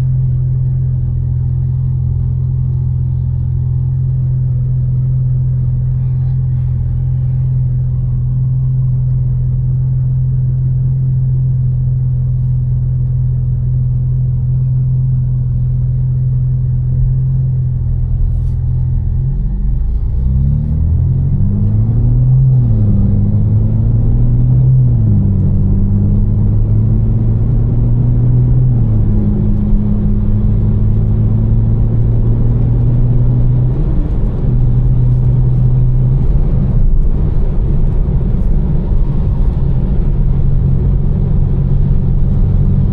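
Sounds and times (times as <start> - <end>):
car engine accelerating and shifting: 0.0 - 42.9.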